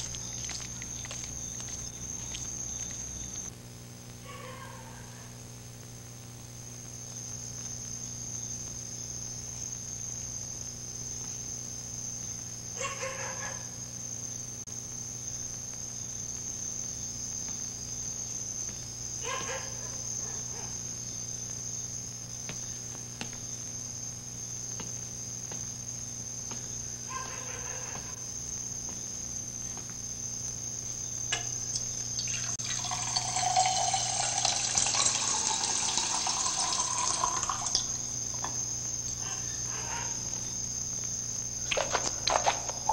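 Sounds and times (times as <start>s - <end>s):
crickets trilling: 0.0s - 42.9s.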